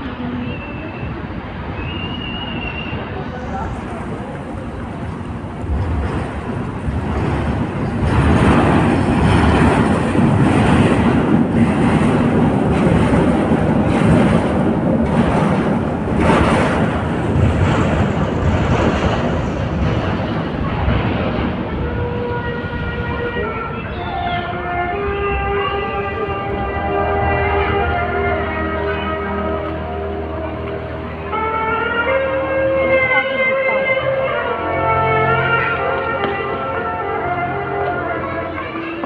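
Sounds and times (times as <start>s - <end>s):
rushing vehicle noise: 0.0s - 39.0s.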